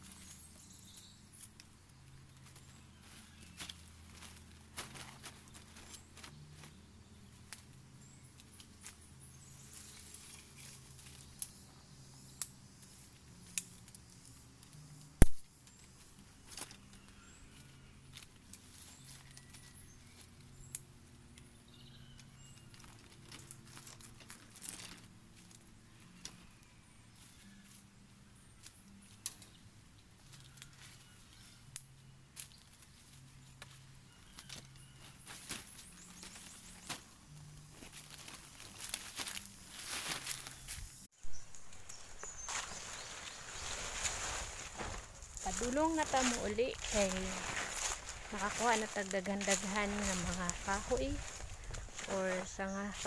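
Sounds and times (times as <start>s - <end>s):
twigs snapping and rustling: 0.0s - 17.2s, 18.1s - 26.5s, 28.6s - 53.0s.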